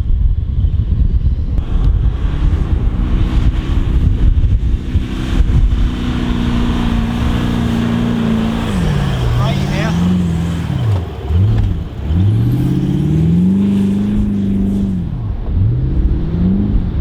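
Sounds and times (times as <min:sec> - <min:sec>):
wind buffeting microphone: 0:00.0 - 0:17.0
engine working under load: 0:01.5 - 0:17.0.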